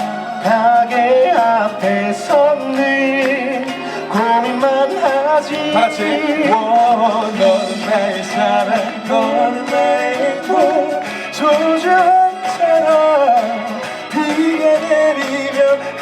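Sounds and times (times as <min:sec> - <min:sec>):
live pop song with vocals: 0:00.0 - 0:16.0.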